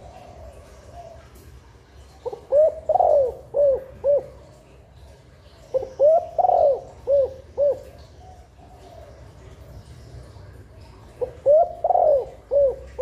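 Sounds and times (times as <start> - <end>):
dove cooing: 0.0 - 9.7, 10.8 - 13.0.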